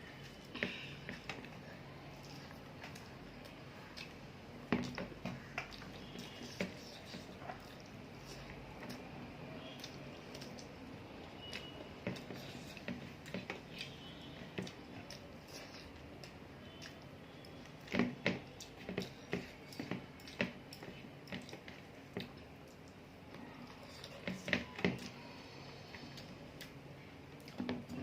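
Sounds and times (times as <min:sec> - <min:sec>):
wet chewing sounds: 0:00.2 - 0:25.2, 0:25.8 - 0:28.0.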